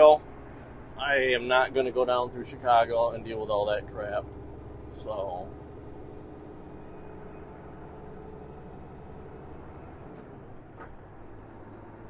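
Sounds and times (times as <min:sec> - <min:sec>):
road noise: 0:00.0 - 0:12.0
truck diesel engine running: 0:00.0 - 0:12.0.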